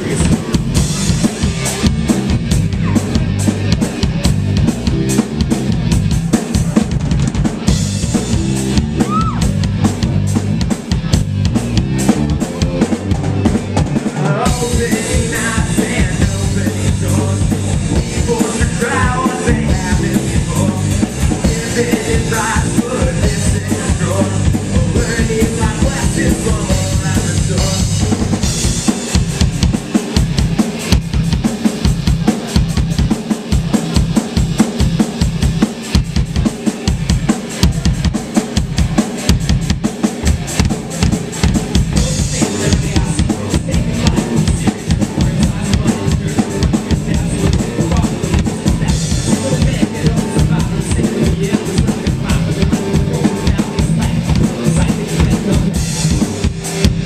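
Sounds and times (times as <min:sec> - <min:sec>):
drum kit: 0:00.0 - 0:57.0
electric bass: 0:00.0 - 0:57.0.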